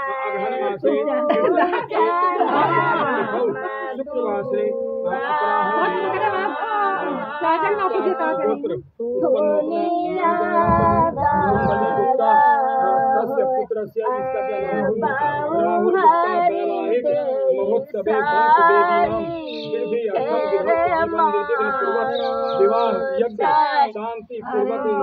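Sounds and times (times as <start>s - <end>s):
women singing folk song: 0.0s - 25.0s.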